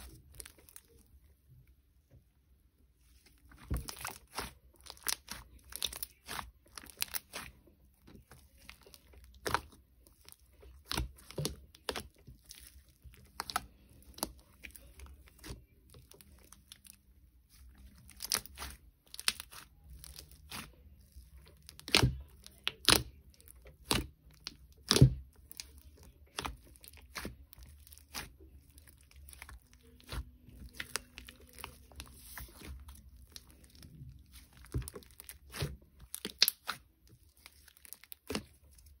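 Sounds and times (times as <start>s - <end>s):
slime popping and crackling: 3.5s - 39.0s.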